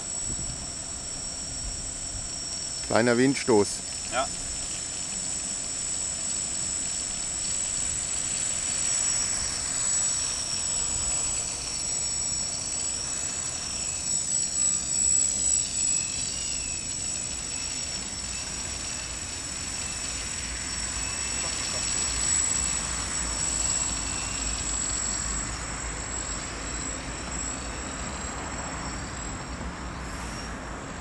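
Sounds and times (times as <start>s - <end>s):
quadcopter propellers whining: 0.0s - 31.0s.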